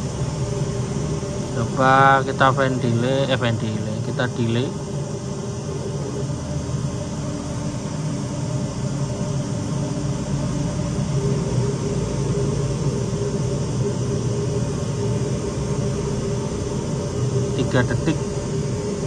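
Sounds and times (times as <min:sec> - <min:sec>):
hiss-like test noise: 0:00.0 - 0:19.0.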